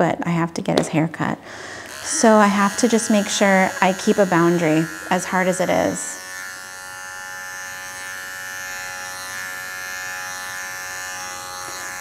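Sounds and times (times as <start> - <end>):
electric clipper buzzing: 1.6 - 12.0.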